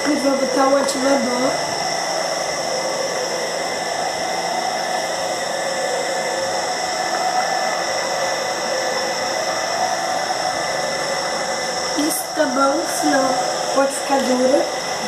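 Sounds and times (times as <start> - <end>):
motor blower whirring and hissing: 0.0 - 15.0.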